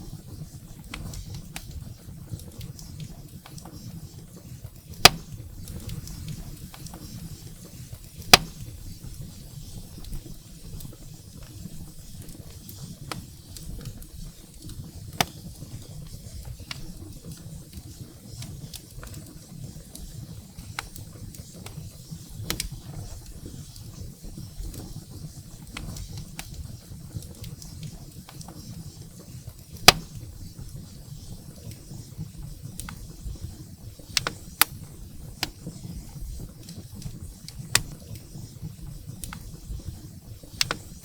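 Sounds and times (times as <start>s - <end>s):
fire burning: 0.0s - 41.0s
firewood crackling and popping: 0.0s - 41.0s.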